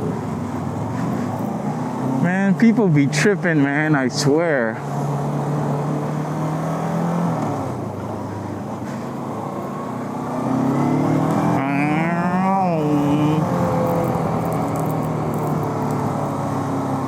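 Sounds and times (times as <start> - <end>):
motorcycle engine accelerating: 0.0 - 2.5, 4.9 - 17.0.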